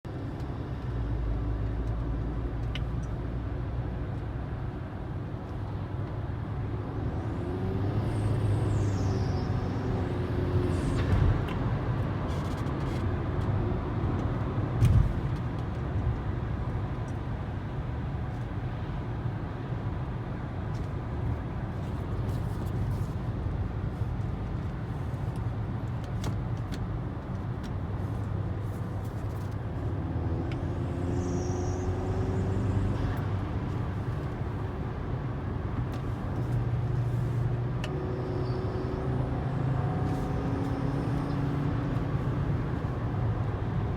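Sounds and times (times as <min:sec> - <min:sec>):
car engine under load: 0:05.1 - 0:43.9.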